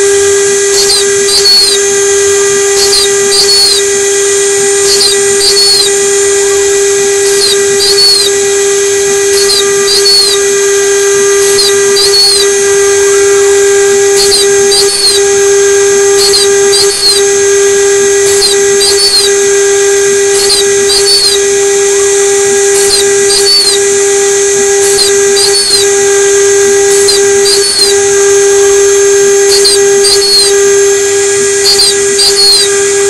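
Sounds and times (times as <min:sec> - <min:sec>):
spindle whining: 0:00.0 - 0:33.0
stepper motor chirps: 0:00.0 - 0:33.0.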